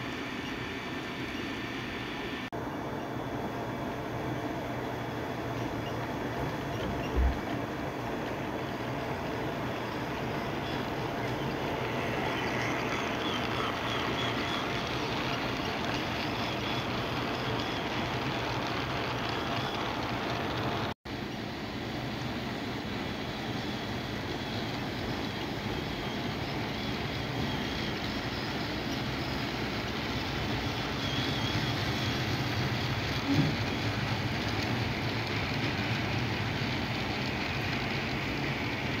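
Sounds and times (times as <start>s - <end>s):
model train wheels rolling: 5.3s - 21.0s, 22.0s - 39.0s.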